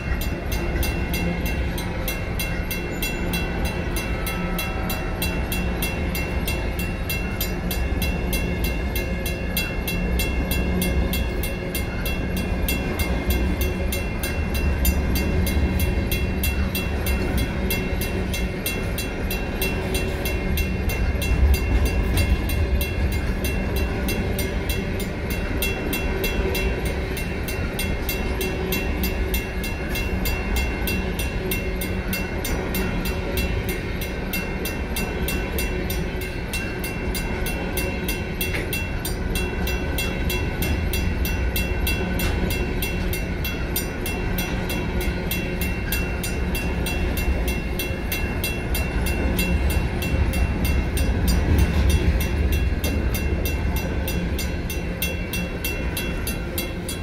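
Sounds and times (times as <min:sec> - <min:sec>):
crossing bell ringing: 0:00.0 - 0:57.0
freight train rumbling and rattling: 0:00.0 - 0:57.0.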